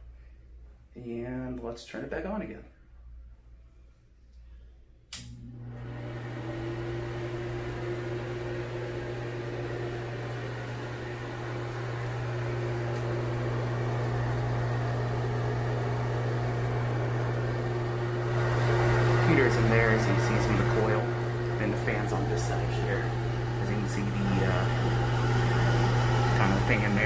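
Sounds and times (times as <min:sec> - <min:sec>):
bathroom exhaust fan running: 0:05.0 - 0:27.0.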